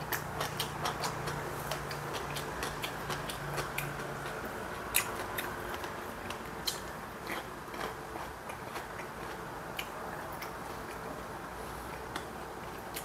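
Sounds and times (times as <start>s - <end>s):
chewing crunchy fried food: 0.0s - 13.0s
steady background hum: 0.0s - 13.0s.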